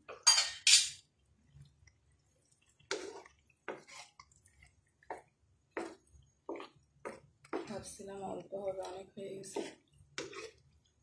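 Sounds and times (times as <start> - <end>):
spatula stirring wet food in pan: 0.9 - 11.0.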